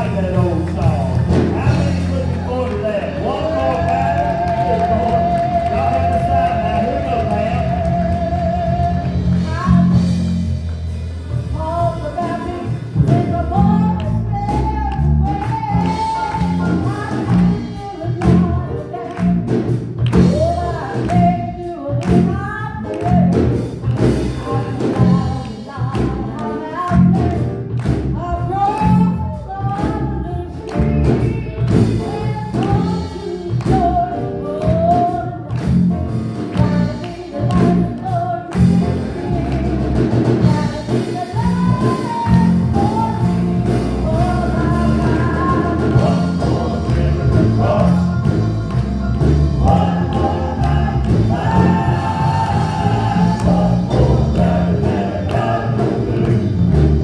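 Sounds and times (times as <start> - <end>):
voices singing gospel: 0.0 - 10.4, 11.6 - 57.0
bass: 0.0 - 57.0
drums: 0.0 - 57.0.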